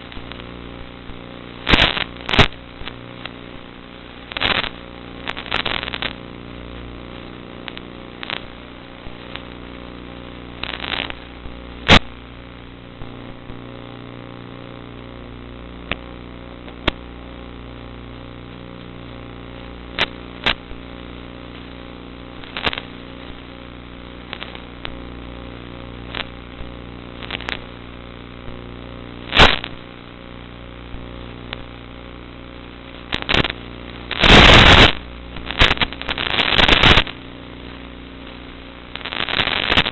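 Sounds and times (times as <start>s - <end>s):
sharp pops and crackles: 0.0s - 39.9s.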